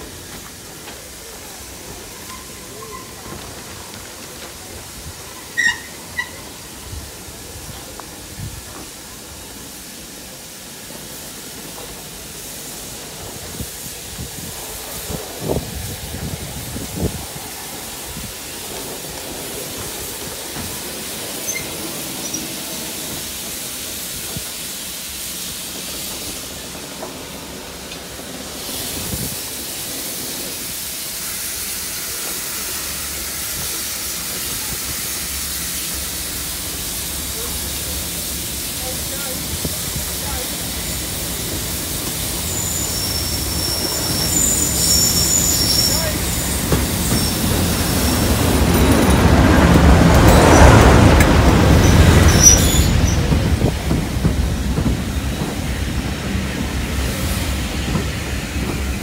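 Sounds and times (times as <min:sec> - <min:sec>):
steam hissing: 0:00.0 - 0:59.0.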